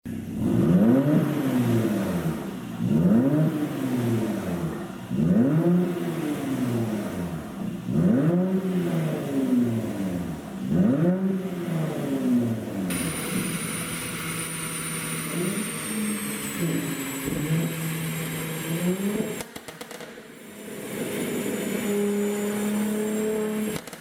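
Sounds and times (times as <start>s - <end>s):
car engine revving: 0.1s - 24.0s.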